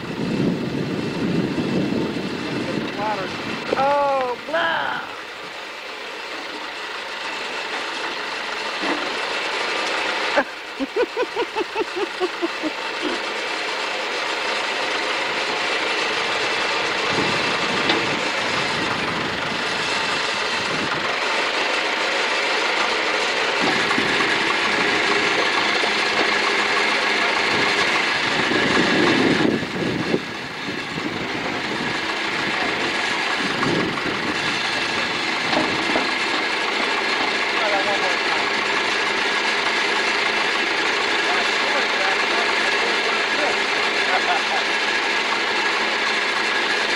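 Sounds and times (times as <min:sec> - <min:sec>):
backhoe engine running: 0:00.0 - 0:46.9.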